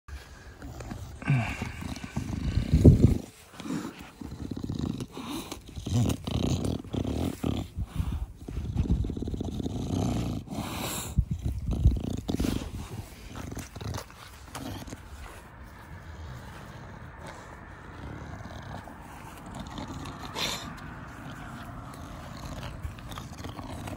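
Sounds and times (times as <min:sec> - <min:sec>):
dog snorting breaths: 0:00.1 - 0:23.9.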